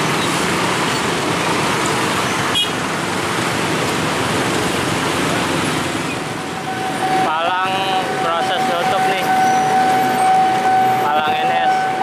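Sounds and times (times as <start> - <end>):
motorcycle and car traffic: 0.0 - 12.0.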